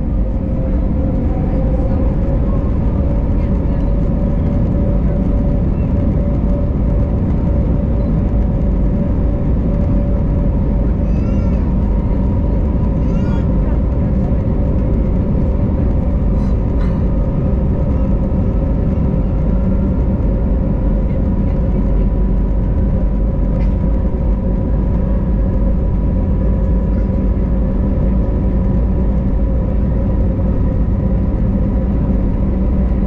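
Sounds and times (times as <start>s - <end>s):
jet engines roaring in cabin: 0.0s - 33.0s.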